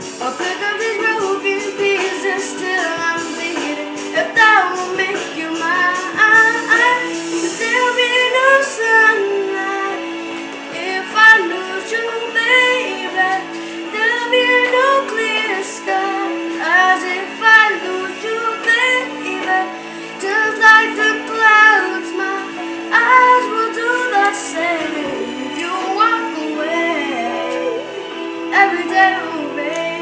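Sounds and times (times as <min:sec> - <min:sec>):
woman singing: 0:00.0 - 0:10.1, 0:10.7 - 0:30.0
music accompaniment: 0:00.0 - 0:30.0.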